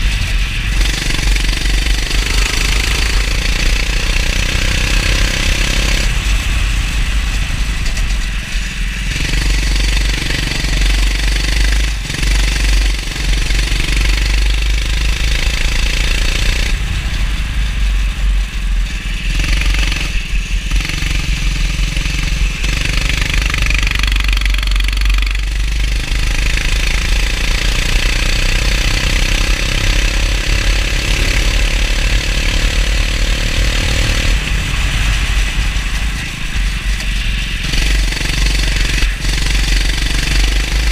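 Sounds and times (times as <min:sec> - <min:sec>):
deep rumble and hiss: 0:00.0 - 0:40.9
go-kart engine revving: 0:00.0 - 0:40.9.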